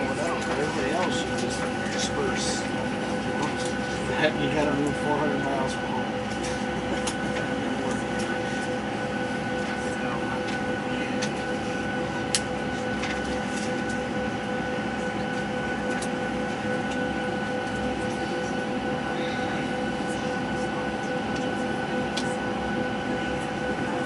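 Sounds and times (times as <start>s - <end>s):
steady humming tones: 0.0s - 24.0s.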